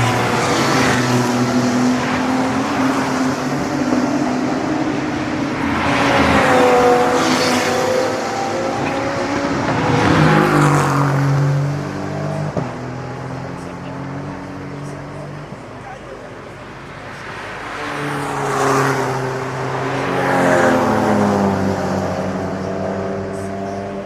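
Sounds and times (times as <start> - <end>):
race cars passing at speed: 0.0 - 24.0.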